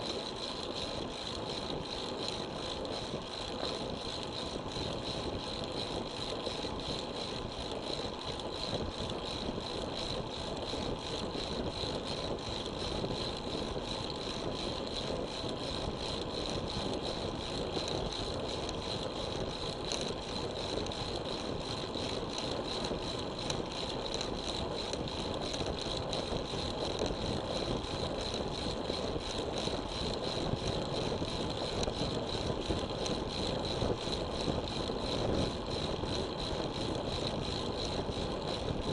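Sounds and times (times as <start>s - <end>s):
fine bicycle rattle: 0.0s - 38.9s.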